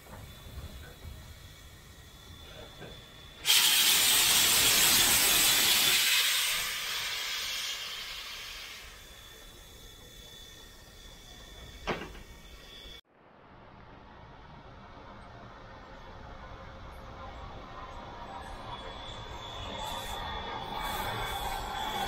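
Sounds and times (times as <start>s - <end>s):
steam locomotive hissing steam: 0.0s - 13.0s, 16.9s - 22.0s.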